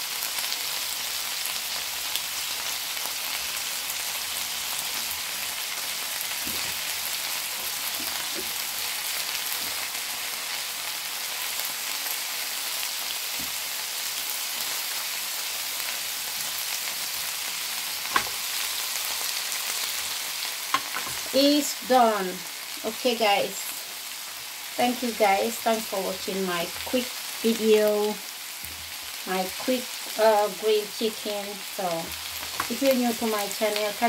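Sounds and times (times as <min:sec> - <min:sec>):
chicken sizzling in grill pan: 0:00.0 - 0:34.0.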